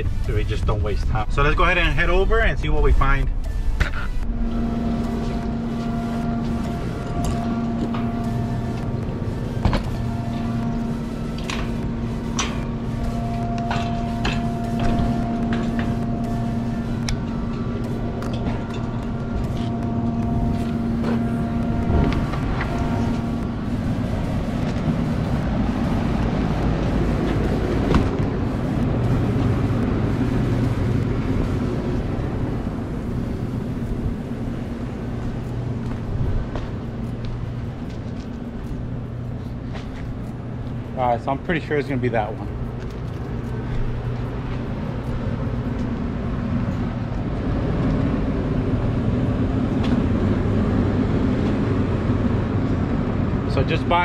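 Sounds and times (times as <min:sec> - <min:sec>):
exhaust fan humming: 0:00.0 - 0:54.0
low mechanical drone: 0:00.0 - 0:54.0.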